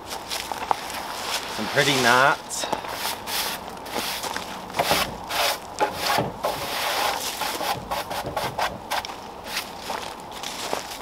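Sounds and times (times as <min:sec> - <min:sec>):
brush sweeping sawdust off boards: 0:01.0 - 0:10.9.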